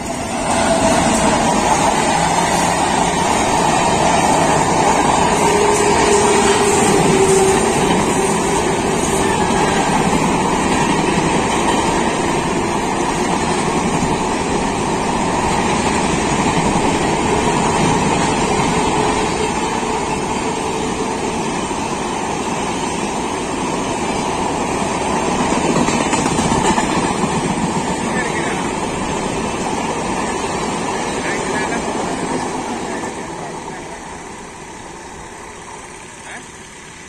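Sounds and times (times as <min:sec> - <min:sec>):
electric locomotive whine: 0:00.0 - 0:37.0
train wheels on rails: 0:00.0 - 0:37.0.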